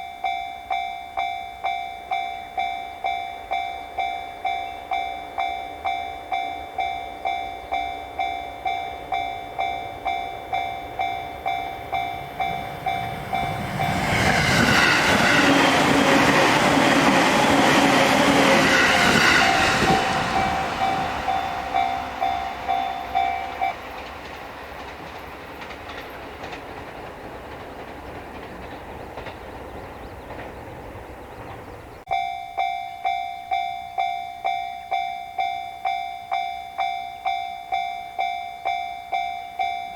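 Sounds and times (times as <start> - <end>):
level-crossing warning bell: 0.0 - 24.5, 32.1 - 39.9
electric train passing: 0.2 - 39.9.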